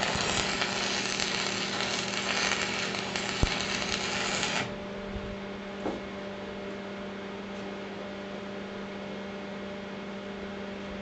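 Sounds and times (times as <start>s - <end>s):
welding machine electrical hum: 0.0s - 9.1s.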